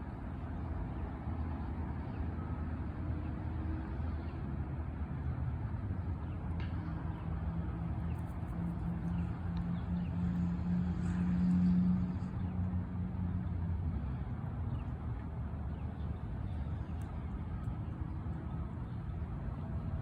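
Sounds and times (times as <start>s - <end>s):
low outdoor rumble: 0.0s - 20.0s
vehicle engine hum: 0.0s - 20.0s.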